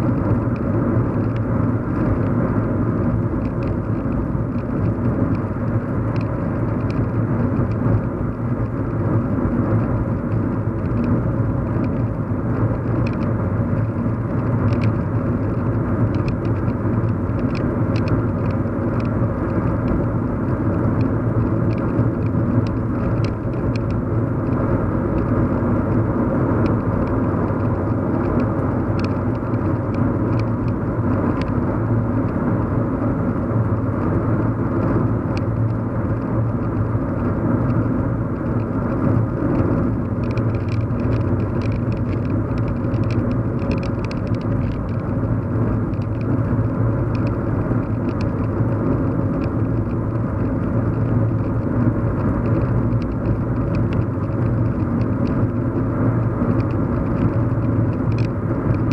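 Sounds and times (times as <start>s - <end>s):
faint ticks and rattles: 0.0s - 32.8s, 33.5s - 58.9s
car engine and road noise: 0.0s - 58.9s.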